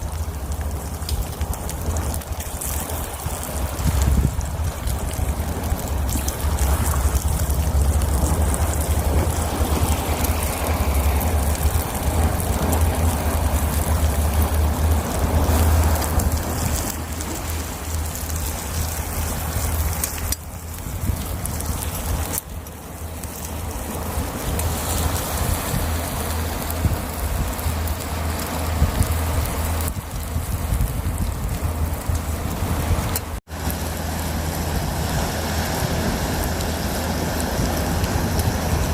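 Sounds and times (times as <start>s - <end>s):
faint crackles: 0.0s - 38.9s
wind buffeting microphone: 0.0s - 38.9s.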